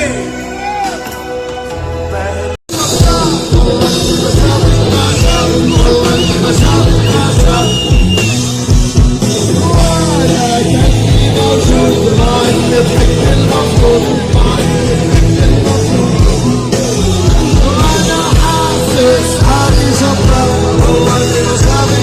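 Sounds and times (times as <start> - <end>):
live rock band playing: 0.0 - 22.0
person singing: 2.0 - 8.2, 9.4 - 22.0.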